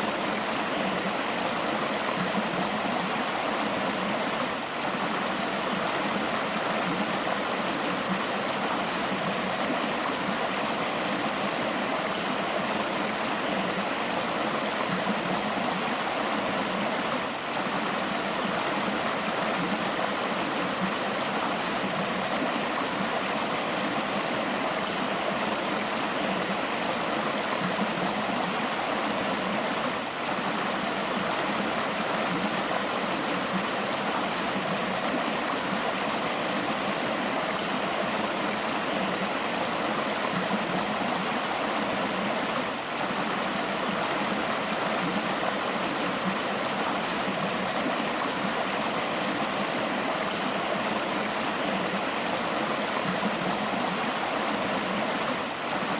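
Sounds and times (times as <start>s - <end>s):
river water rushing and babbling: 0.0s - 55.9s.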